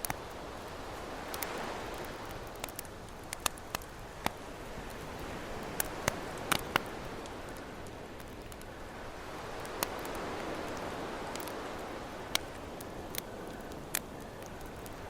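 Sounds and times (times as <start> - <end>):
campfire crackling and popping: 0.0 - 15.0
ocean waves: 0.4 - 3.1, 4.4 - 15.0.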